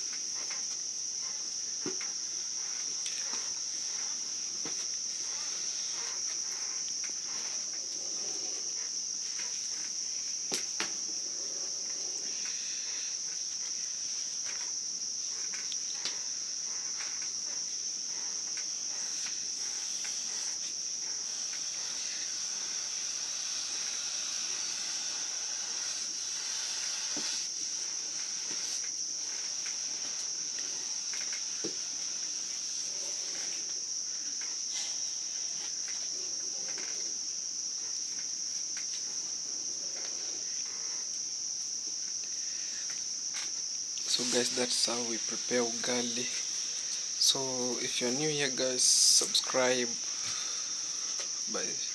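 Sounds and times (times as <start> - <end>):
night insects chirring: 0.0 - 51.9.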